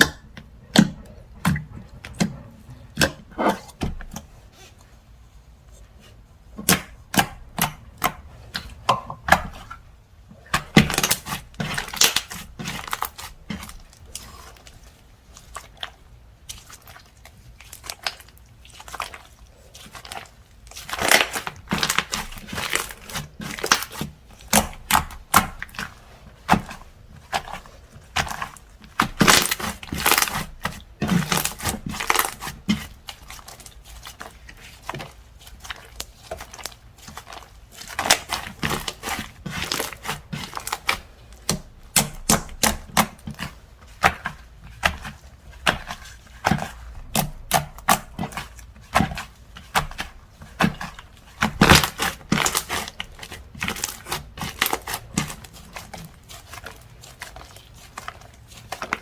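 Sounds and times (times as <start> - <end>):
slime crackling and popping: 10.4 - 59.0.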